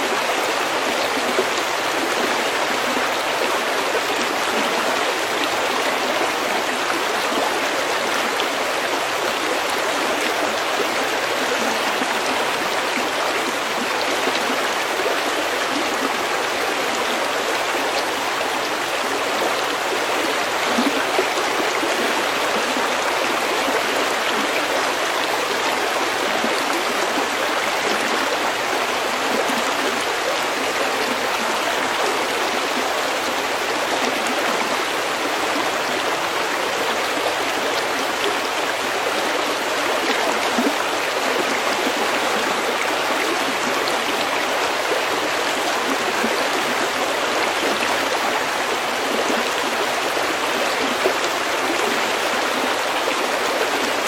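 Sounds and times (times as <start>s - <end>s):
stream flowing over pebbles: 0.0s - 54.0s.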